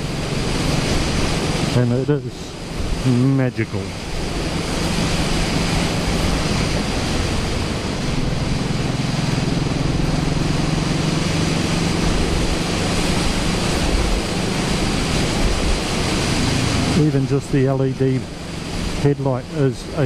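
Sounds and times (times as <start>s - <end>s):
motorcycle engine running: 0.0s - 3.2s, 4.0s - 19.8s
rushing wind noise: 0.0s - 20.0s.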